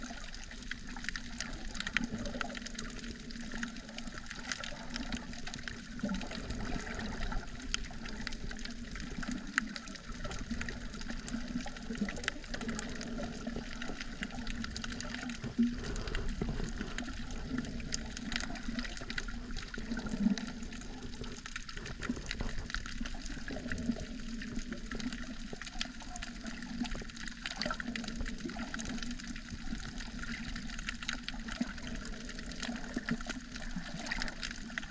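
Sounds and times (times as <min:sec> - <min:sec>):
faint underwater clicks and crackles: 0:00.0 - 0:34.9
underwater wash of water: 0:00.0 - 0:34.9.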